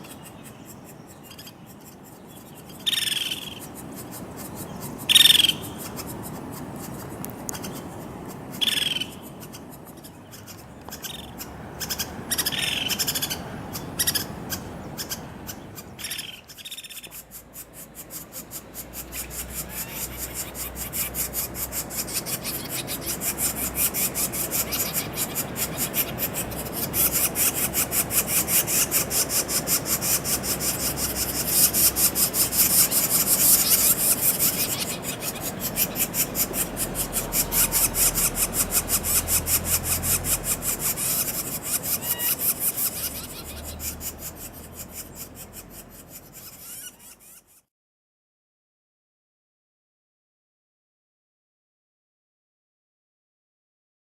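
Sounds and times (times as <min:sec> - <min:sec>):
woodpecker calls: 0:00.0 - 0:47.7.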